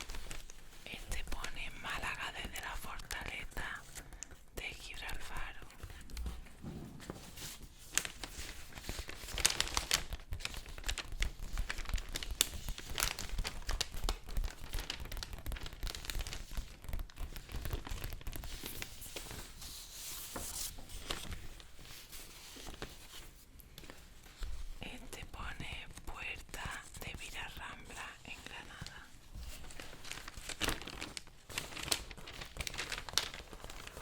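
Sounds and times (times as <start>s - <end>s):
paper crinkling: 0.0s - 34.0s.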